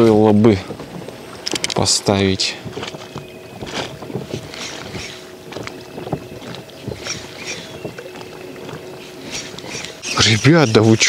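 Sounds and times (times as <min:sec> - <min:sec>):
wind on the microphone: 0:00.0 - 0:11.0
fishing tackle knocks and clicks: 0:00.7 - 0:10.2.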